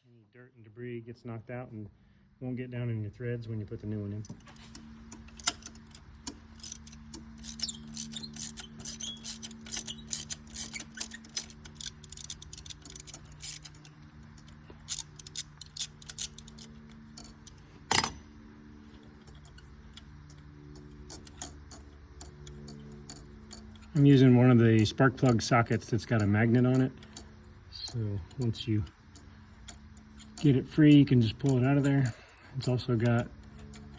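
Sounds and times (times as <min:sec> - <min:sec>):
faint steady hum: 0:00.1 - 0:33.9
ratchet wrench clicking: 0:04.2 - 0:18.2, 0:18.8 - 0:33.9.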